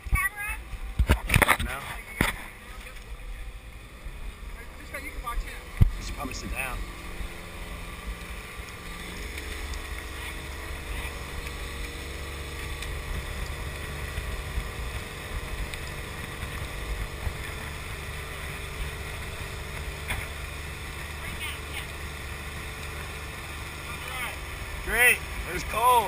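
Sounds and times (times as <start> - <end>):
boat engine running: 0.0 - 26.0
water rushing from wake: 0.0 - 26.0
wind: 0.0 - 26.0.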